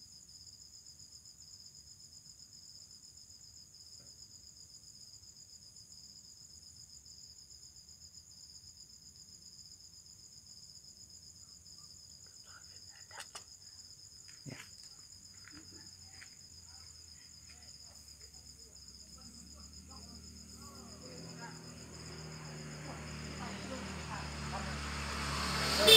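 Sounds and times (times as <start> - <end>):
crickets trilling: 0.1 - 25.9.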